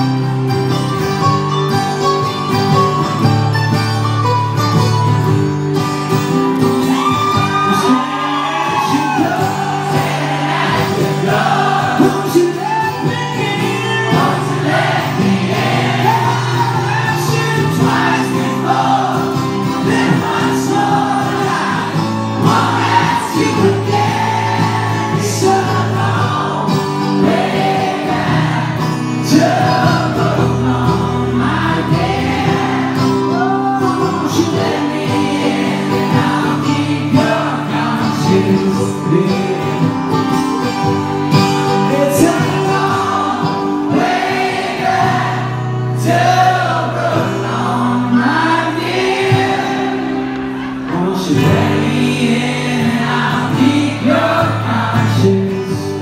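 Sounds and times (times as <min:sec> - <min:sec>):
strummed acoustic guitars: 0:00.0 - 0:56.0
people singing: 0:06.4 - 0:56.0.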